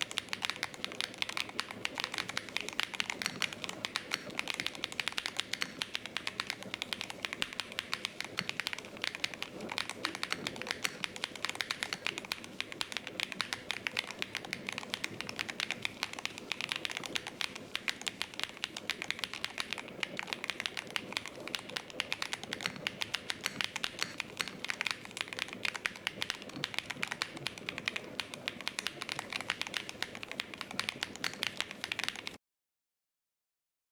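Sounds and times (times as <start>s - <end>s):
typing on mechanical keyboard: 0.0s - 32.4s.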